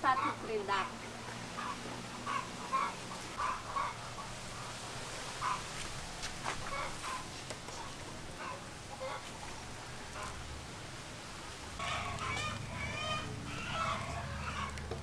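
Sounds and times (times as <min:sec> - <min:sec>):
chickens clucking: 0:00.0 - 0:10.5, 0:11.8 - 0:15.0.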